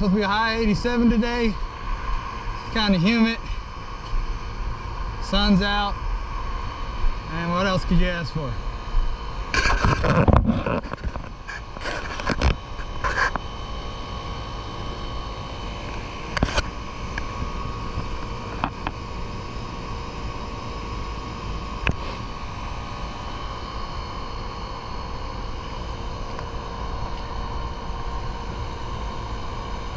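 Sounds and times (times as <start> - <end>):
hvac unit humming: 0.0 - 29.9.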